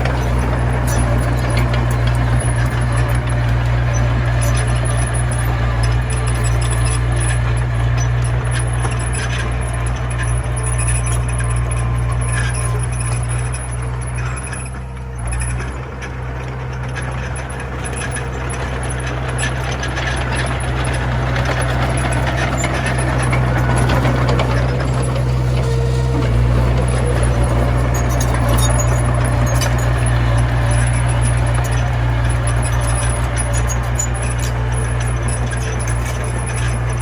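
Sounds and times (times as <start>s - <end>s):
bulldozer diesel engine running: 0.0s - 37.0s
metallic rattling and clatter: 0.0s - 37.0s.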